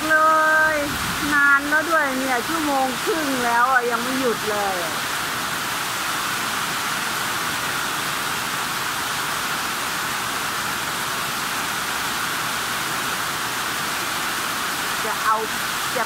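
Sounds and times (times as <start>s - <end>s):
heavy rain on roofs and pavement: 0.0s - 16.0s.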